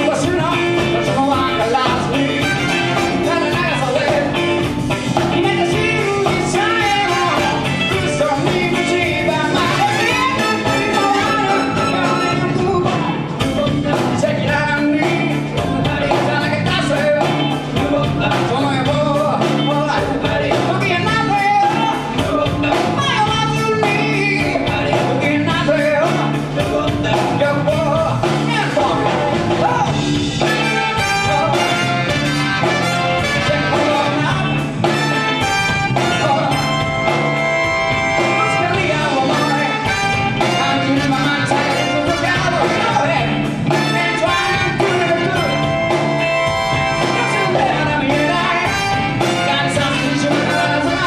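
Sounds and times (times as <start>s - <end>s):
live band music: 0.0s - 51.0s
steady drum beat: 0.0s - 51.0s.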